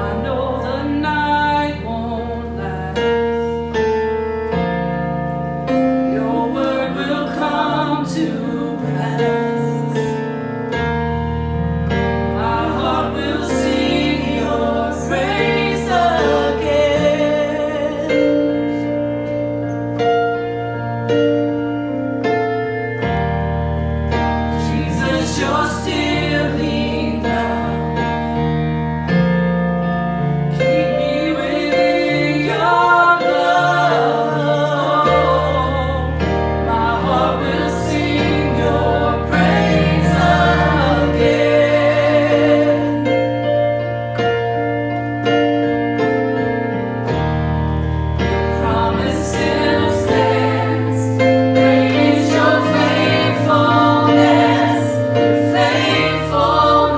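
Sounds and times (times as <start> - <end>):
gospel song with singing: 0.0 - 3.9, 4.5 - 20.6, 24.4 - 29.1, 30.2 - 44.1, 47.6 - 56.9.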